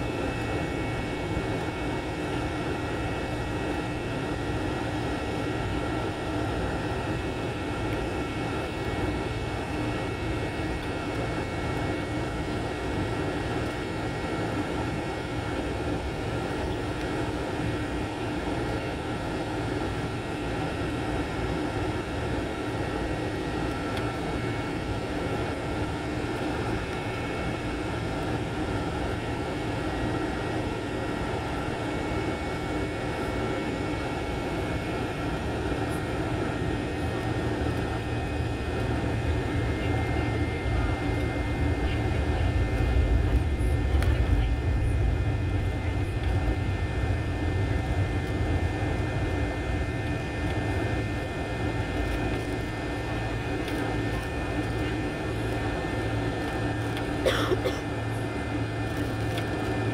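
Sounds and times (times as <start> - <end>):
airliner engines droning: 0.0 - 59.9.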